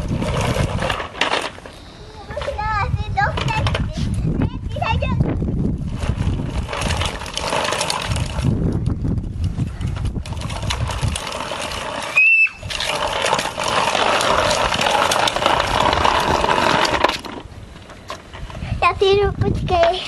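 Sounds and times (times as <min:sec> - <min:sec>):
plastic toy wheels rattling on concrete: 0:00.0 - 0:20.0.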